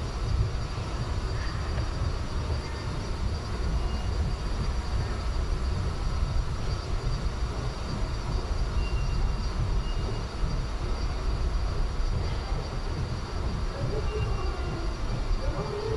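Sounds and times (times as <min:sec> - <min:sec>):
low rumble of subway station: 0:00.0 - 0:15.9.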